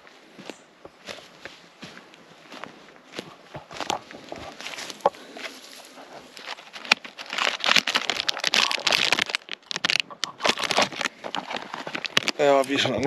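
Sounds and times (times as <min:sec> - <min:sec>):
dry crinkling and rustling: 0:02.5 - 0:13.0.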